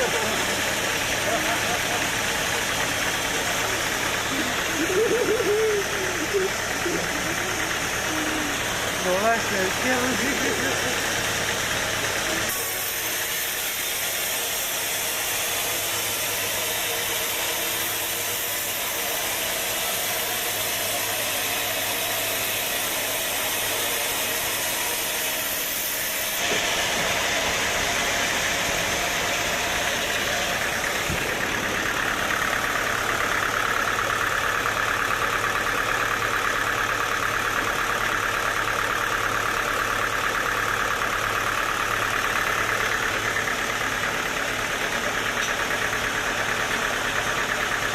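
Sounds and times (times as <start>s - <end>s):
sawmill machinery droning: 0.0s - 47.9s.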